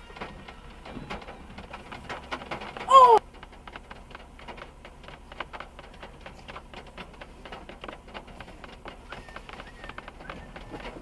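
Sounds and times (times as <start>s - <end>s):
rain tapping on car roof: 0.0s - 11.0s.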